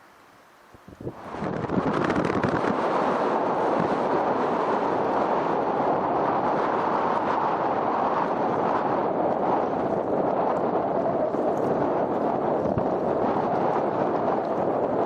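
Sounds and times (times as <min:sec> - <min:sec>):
strong wind buffeting microphone: 0:00.7 - 0:15.0.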